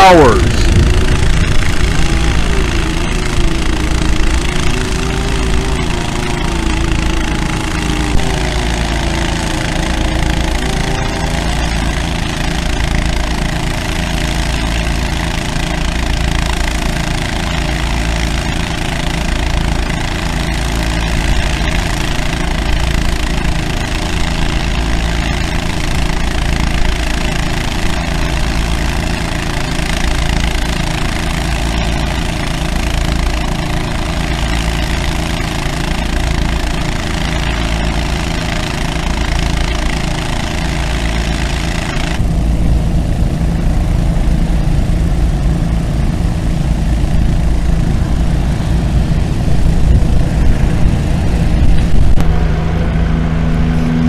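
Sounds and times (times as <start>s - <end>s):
engines running with throb: 0.0s - 54.0s
wavering whine: 0.0s - 54.0s.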